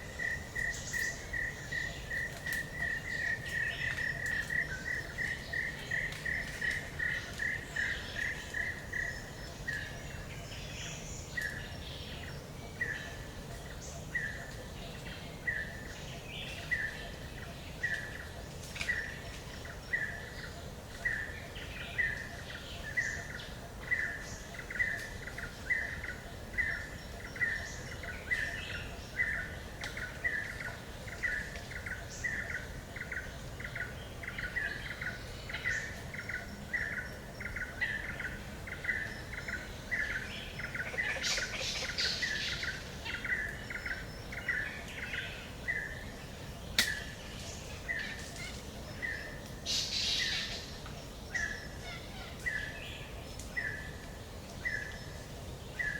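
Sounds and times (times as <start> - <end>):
birds chirping high: 0.0 - 55.9.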